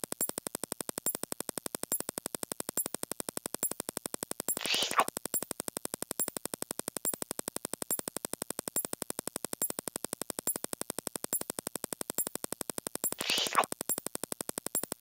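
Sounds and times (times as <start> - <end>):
rapid ticking click track: 0.0 - 15.0.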